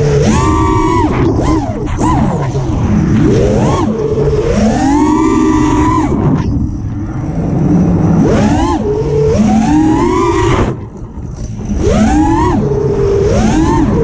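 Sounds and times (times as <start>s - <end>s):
drone motors whining: 0.0s - 14.0s
wind rush: 0.0s - 14.0s.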